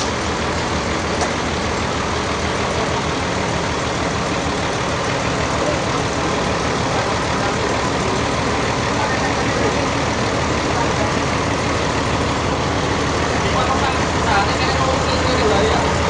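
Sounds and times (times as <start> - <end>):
sawmill machinery drone: 0.0 - 16.0.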